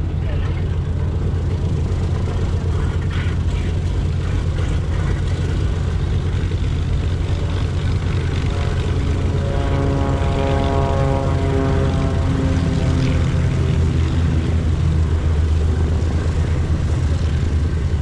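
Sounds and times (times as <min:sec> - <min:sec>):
radial aircraft engines droning: 0:00.0 - 0:18.0.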